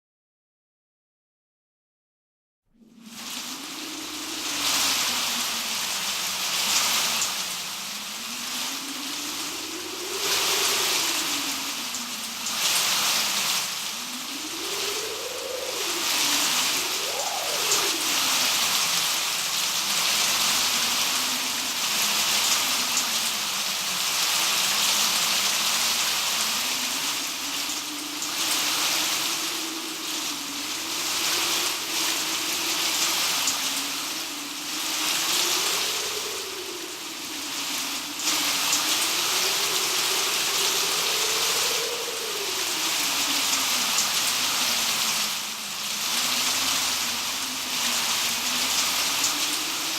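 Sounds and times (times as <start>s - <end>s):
low wind howl: 2.7s - 49.9s
heavy rain hiss: 2.8s - 49.9s.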